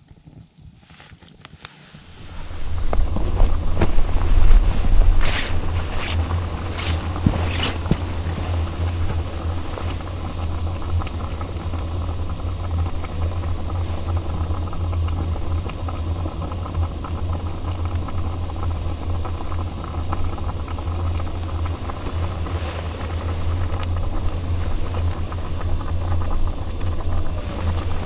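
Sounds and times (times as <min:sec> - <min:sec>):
campfire crackling: 0:01.7 - 0:28.0
steady low hum: 0:01.9 - 0:28.0.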